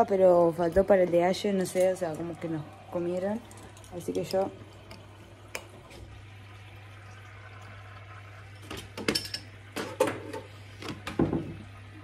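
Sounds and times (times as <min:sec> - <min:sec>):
water pouring: 0:01.6 - 0:12.0
washing machine running: 0:02.0 - 0:12.0.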